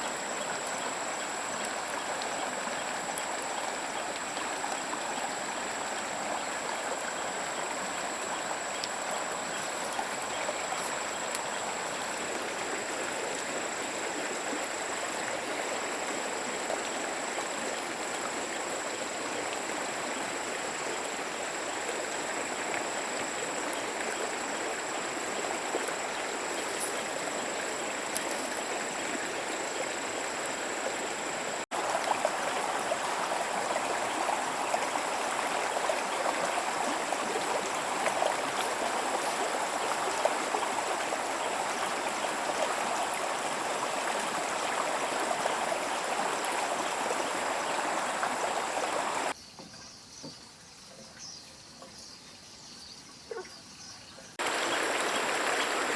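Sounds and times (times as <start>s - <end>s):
stream water rushing: 0.0s - 49.4s, 54.4s - 55.9s.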